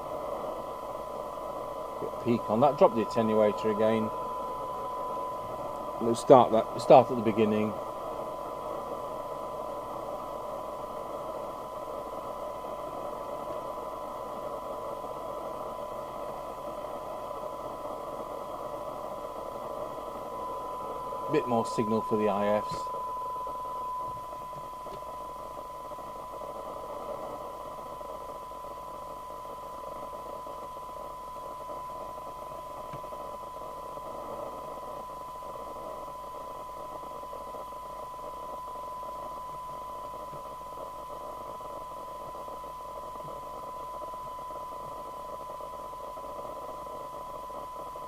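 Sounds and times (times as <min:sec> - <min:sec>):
steady test tone: 0:00.0 - 0:11.5, 0:18.3 - 0:48.0
radio hiss: 0:00.0 - 0:48.0.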